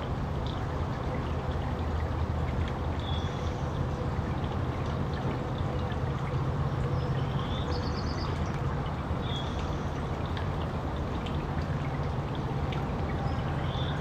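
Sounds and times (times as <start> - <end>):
water fountain splashing: 0.0 - 14.0.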